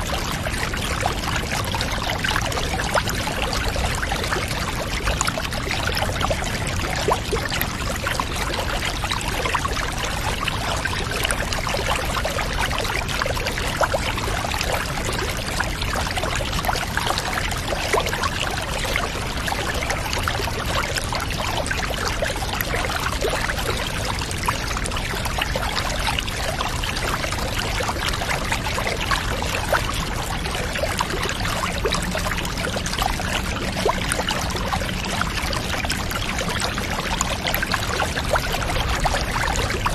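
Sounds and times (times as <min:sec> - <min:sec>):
water drips and splashes: 0:00.0 - 0:39.9.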